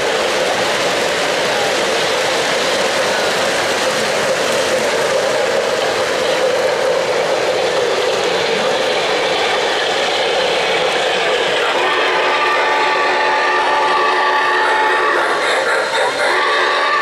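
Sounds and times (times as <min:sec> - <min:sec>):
model trains rattling and whirring: 0:00.0 - 0:17.0.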